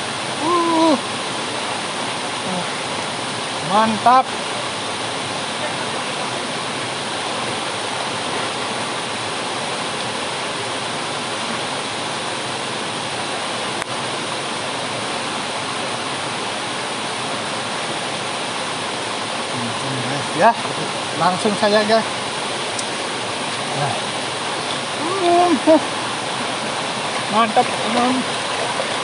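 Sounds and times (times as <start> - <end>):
fast-flowing river: 0.0 - 29.0.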